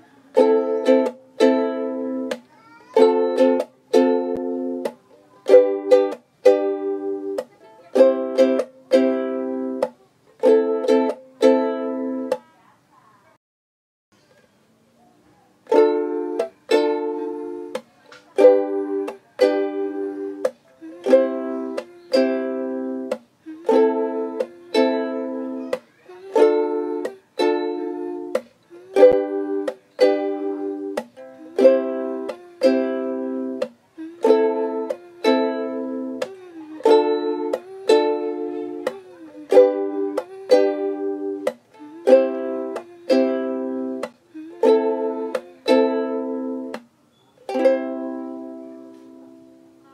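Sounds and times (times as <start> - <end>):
ukulele strumming: 0.0 - 12.4, 15.7 - 49.8.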